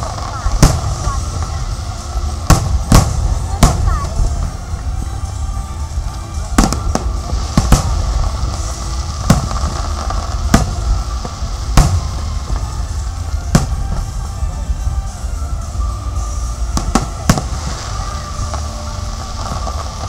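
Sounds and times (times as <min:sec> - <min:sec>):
fireworks bursting bangs: 0:00.0 - 0:20.0
low rumble: 0:00.0 - 0:20.0
music playing: 0:00.0 - 0:20.0.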